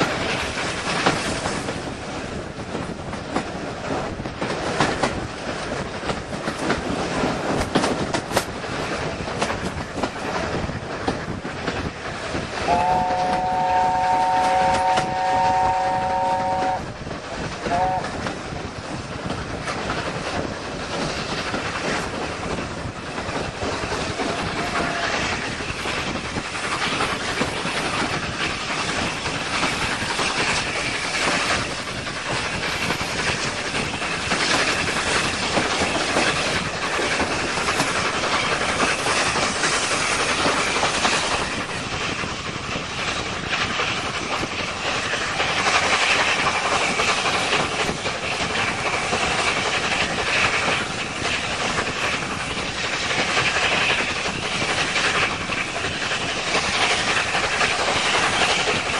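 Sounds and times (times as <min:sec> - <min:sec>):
rushing wind: 0:00.0 - 0:58.9
train wheels clickety-clack on rails: 0:00.0 - 0:58.9.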